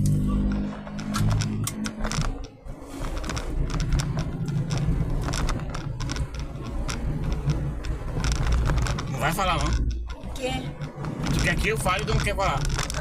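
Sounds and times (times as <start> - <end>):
road and engine rumble: 0.0 - 13.0
clicks and knocks: 0.5 - 13.0.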